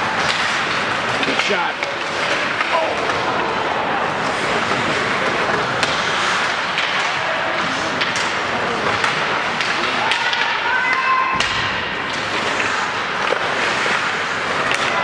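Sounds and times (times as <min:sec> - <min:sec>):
hockey sticks and puck clacking: 0:00.0 - 0:15.0
murmur of spectators: 0:00.0 - 0:15.0.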